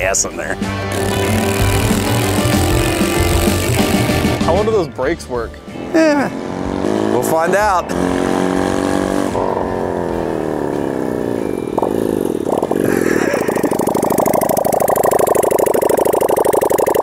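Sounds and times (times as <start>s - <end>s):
motorcycle engine slowing and idling: 0.9s - 4.6s, 5.7s - 17.0s.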